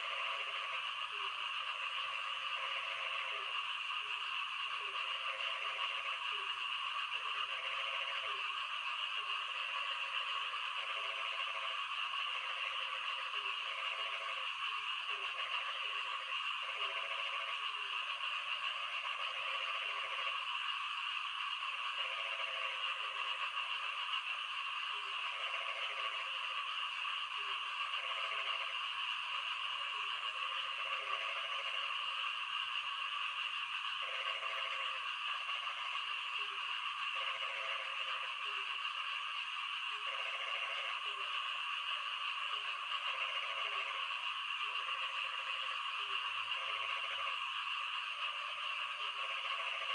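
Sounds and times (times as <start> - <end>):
frogs croaking: 0.0 - 49.9.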